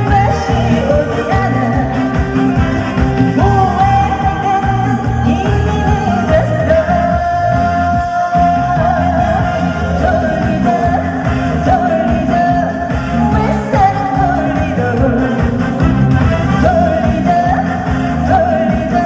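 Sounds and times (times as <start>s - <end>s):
band playing pop music: 0.0s - 19.0s
woman singing: 0.0s - 19.0s.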